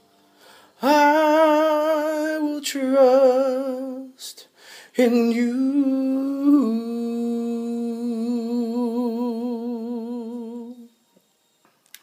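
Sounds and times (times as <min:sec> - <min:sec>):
man singing unaccompanied: 0:00.8 - 0:11.0.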